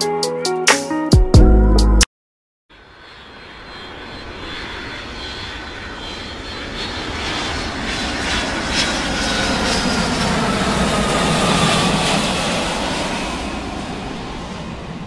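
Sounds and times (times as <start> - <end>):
jet engines rushing and whining: 2.7 - 15.0.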